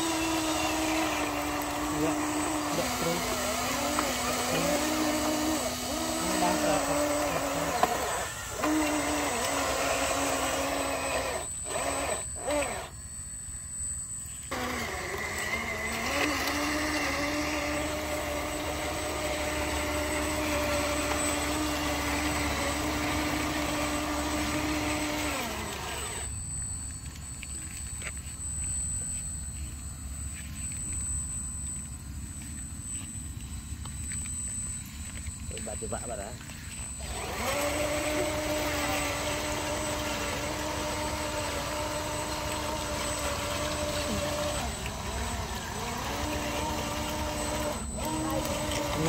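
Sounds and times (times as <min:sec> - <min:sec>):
small electric motors whining: 0:00.0 - 0:49.0.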